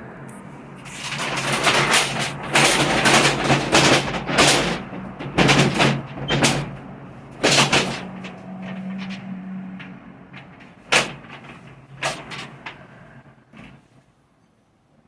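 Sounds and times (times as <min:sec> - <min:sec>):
metal shutter rattling and scraping: 0:00.8 - 0:13.9.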